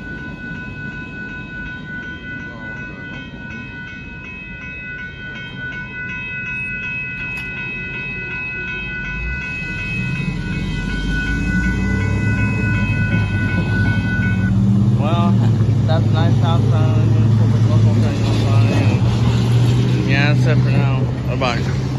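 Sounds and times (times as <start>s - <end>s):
railroad crossing bell ringing: 0.0s - 21.9s
road vehicle engines: 0.0s - 21.9s.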